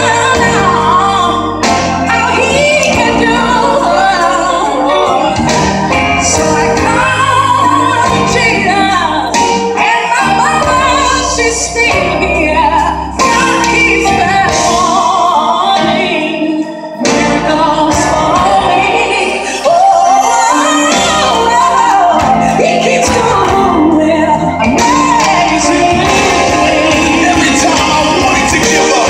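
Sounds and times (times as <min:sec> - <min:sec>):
gospel band playing: 0:00.0 - 0:29.0
woman singing: 0:00.0 - 0:29.0.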